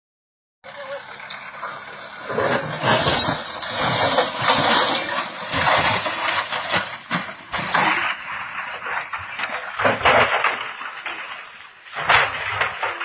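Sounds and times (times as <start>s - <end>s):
heavy machine engine running: 0.6s - 13.0s
irregular knocks and clatter: 1.3s - 13.0s.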